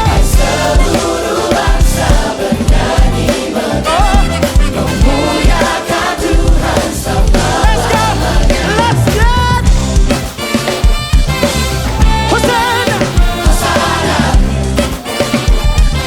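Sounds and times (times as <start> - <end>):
choir singing with band: 0.0 - 16.0
drums keeping a steady beat: 0.0 - 16.0.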